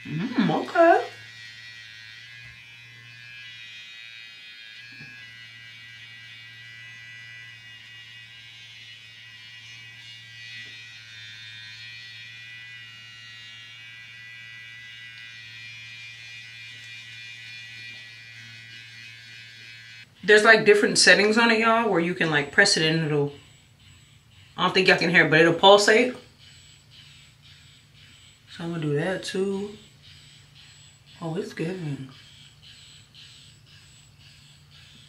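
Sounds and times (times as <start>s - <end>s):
facial brush motor humming: 0.0s - 35.0s.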